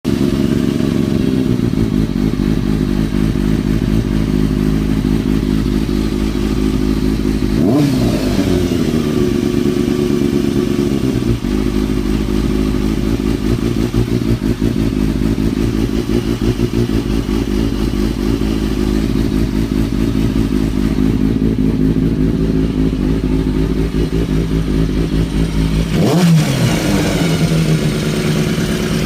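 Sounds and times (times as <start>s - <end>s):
motorcycle engine idling: 0.0s - 29.0s
strange engine noise: 0.0s - 29.0s.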